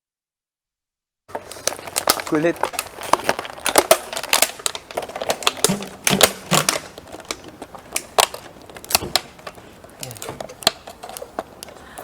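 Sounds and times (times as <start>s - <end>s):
plastic clicking and crinkling: 1.3s - 12.0s.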